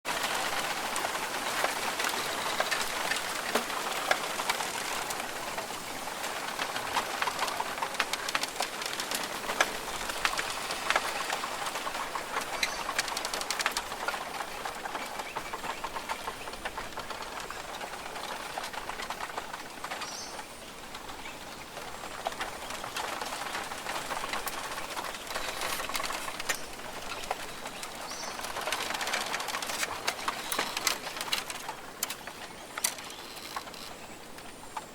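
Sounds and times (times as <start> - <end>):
dense steady hiss: 0.1 - 34.9
birds calling: 0.2 - 34.9.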